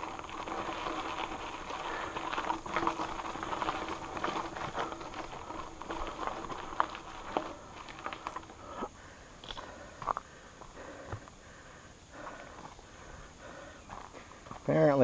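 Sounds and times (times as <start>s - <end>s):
bike rattling: 0.0s - 14.7s
bike tyres crunching over stones: 0.0s - 15.0s.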